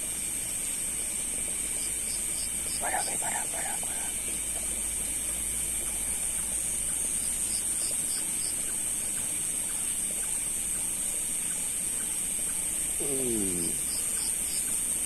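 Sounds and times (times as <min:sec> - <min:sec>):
faint rhythmic pips: 0:00.0 - 0:15.0
night insects droning: 0:00.0 - 0:15.0.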